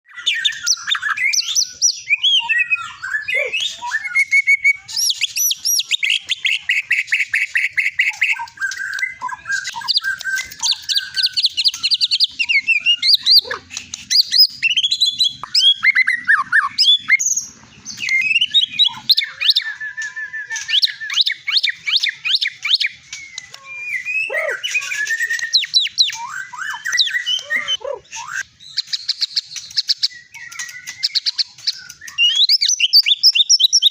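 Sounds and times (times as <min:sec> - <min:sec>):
songbird singing varied song: 0:00.1 - 0:33.9.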